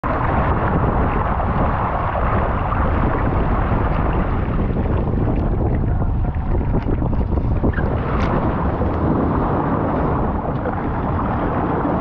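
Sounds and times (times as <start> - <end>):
water rushing past hull: 0.0 - 12.0
wind buffeting microphone: 0.0 - 12.0.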